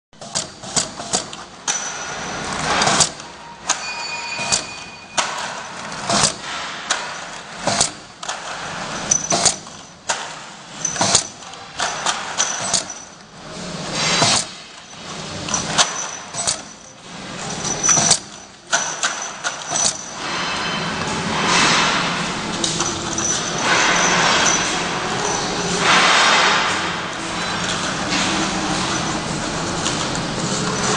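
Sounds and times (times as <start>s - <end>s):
labeling machine clattering: 0.2s - 30.9s.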